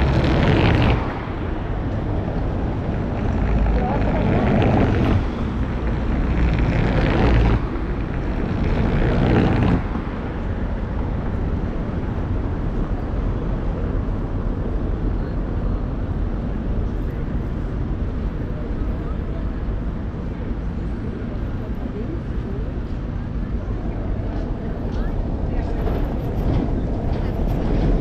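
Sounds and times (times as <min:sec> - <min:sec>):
car tyres on cobblestones: 0:00.0 - 0:28.0
low hum of city traffic: 0:00.0 - 0:28.0.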